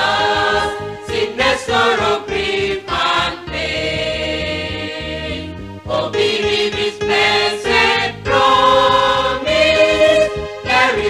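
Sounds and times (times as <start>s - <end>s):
choir singing a hymn: 0.0s - 11.0s
instrumental accompaniment: 0.0s - 11.0s.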